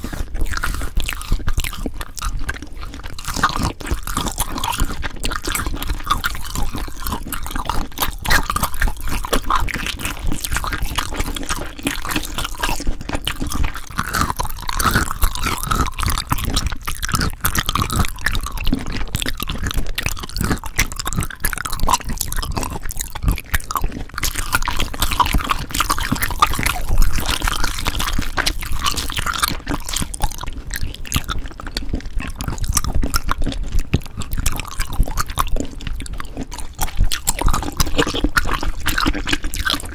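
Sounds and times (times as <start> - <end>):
small clicks and crackles: 0.0 - 39.9
wet squishy sounds: 0.0 - 39.9.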